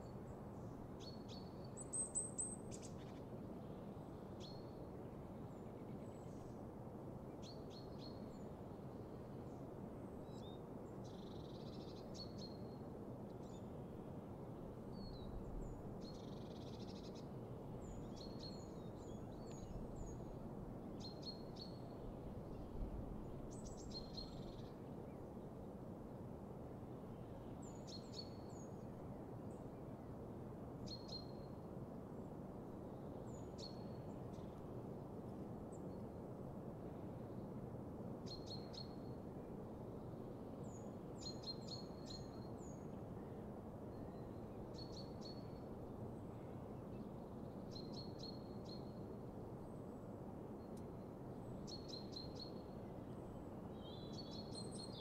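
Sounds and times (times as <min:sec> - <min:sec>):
low background hiss: 0:00.0 - 0:55.0.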